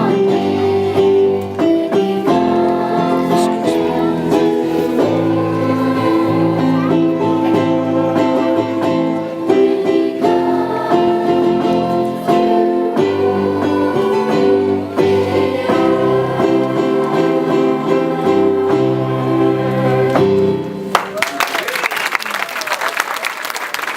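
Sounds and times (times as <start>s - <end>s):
held chords: 0.0s - 20.9s.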